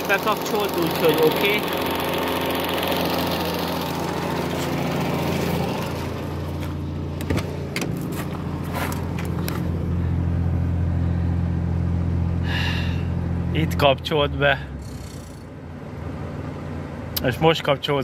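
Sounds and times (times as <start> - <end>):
car engine idling: 0.0 - 18.0
radiator cooling fan: 0.0 - 18.0.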